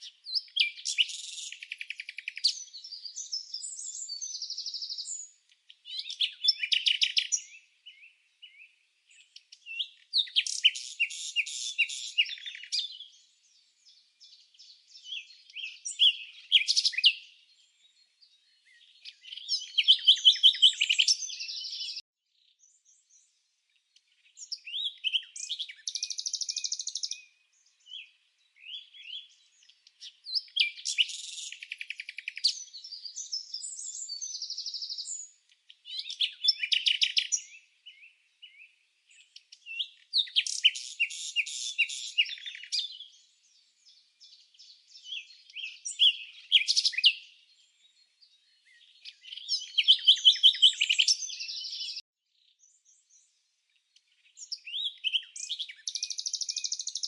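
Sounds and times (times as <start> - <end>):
bird trills and chirps: 0.0 - 23.3, 23.9 - 57.0.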